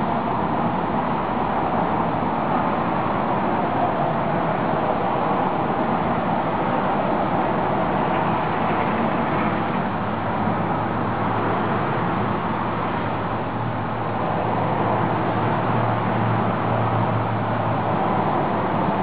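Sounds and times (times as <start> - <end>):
constant rushing noise: 0.0 - 19.0.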